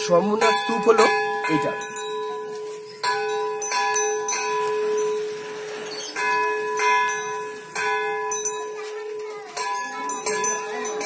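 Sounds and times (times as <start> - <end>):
metal bell struck: 0.4 - 5.2, 6.0 - 8.8, 9.5 - 11.0.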